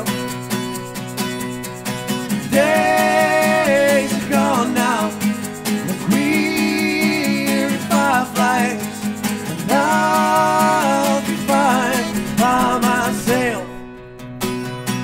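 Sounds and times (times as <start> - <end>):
strummed acoustic guitar: 0.0 - 15.0
wordless lead melody: 0.0 - 15.0.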